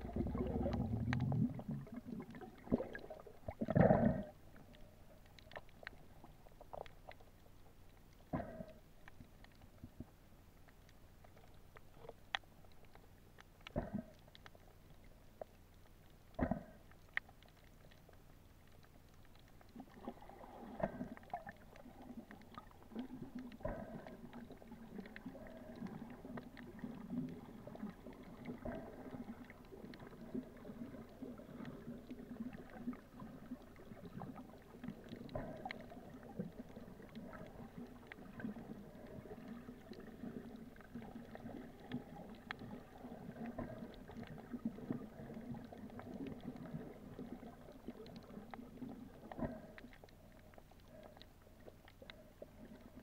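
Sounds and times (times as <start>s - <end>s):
small underwater clicks and knocks: 0.0s - 53.0s
underwater rumble of moving water: 0.0s - 53.0s.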